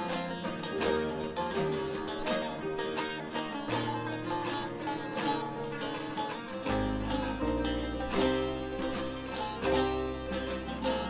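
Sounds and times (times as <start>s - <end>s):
keyboard accompaniment: 0.0s - 11.0s
long-necked lutes picked: 0.0s - 11.0s.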